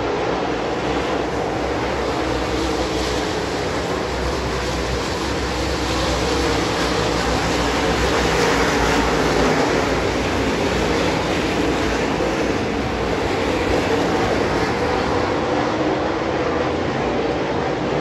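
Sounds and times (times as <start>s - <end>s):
race car engines din: 0.0s - 18.0s.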